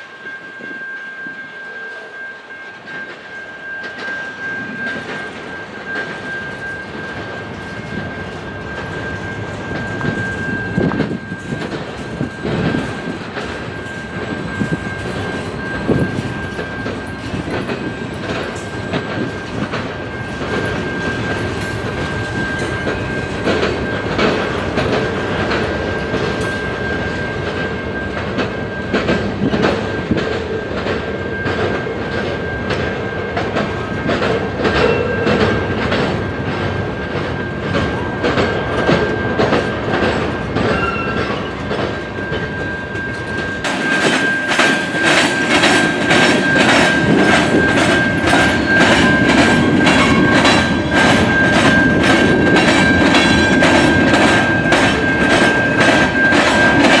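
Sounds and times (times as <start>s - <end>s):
train wheels clacking on rail joints: 2.6s - 57.0s.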